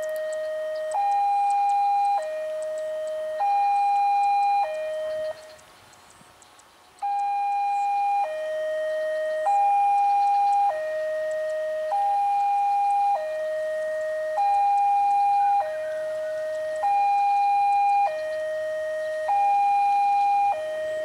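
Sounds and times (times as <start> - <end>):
level crossing two-tone alarm: 0.0 - 5.6, 7.0 - 21.0.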